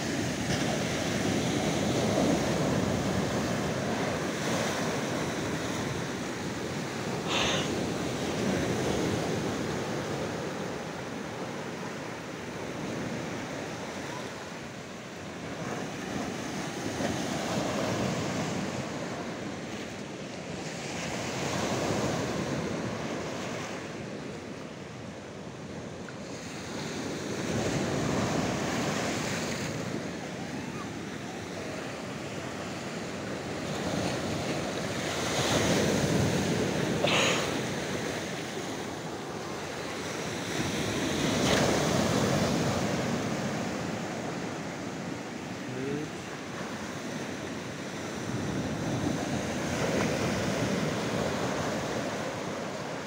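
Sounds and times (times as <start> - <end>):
wave splash: 0.0 - 24.4, 26.1 - 53.0
sea waves surging over rocks: 0.0 - 53.0.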